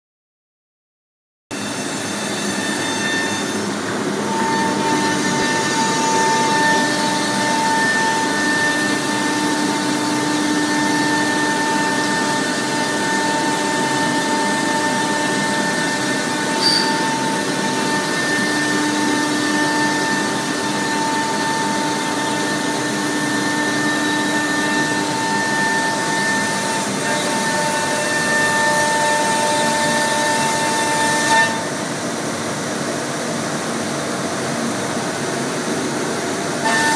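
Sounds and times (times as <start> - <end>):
router spindle whine: 1.6 - 32.6.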